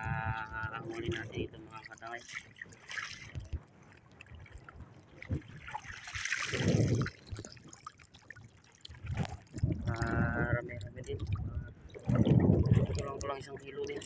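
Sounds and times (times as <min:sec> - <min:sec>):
sea water splashing: 0:00.0 - 0:14.0
water trickling and dripping: 0:00.0 - 0:14.0.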